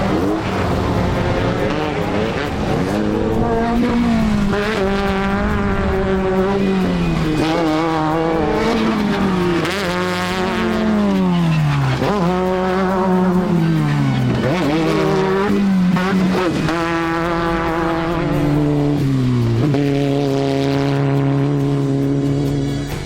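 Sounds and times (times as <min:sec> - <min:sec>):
race vehicle engine revving: 0:00.0 - 0:23.0.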